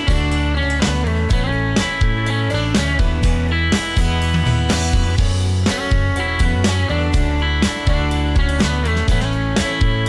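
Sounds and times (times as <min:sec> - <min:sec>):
drum kit beat: 0:00.0 - 0:10.0
live rock band playing: 0:00.0 - 0:10.0.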